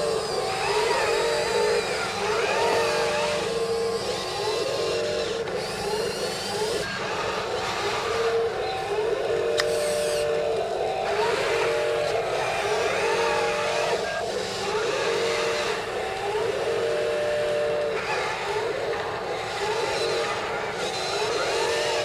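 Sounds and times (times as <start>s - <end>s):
toy electric motors whining: 0.0s - 22.0s.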